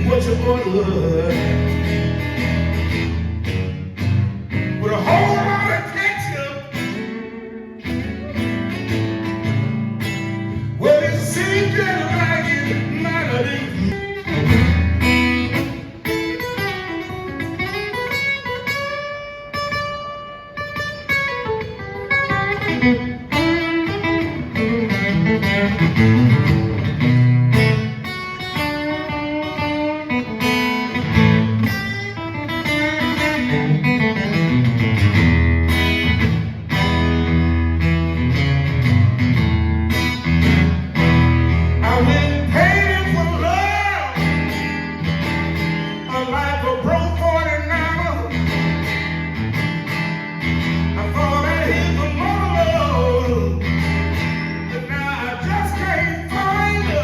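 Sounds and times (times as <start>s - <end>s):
acoustic blues guitar: 0.0s - 57.0s.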